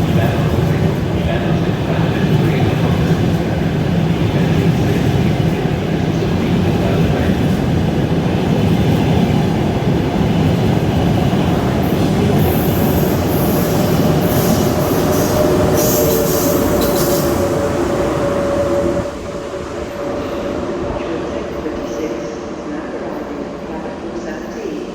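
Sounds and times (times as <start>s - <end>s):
electric train rumbling: 0.0s - 24.9s.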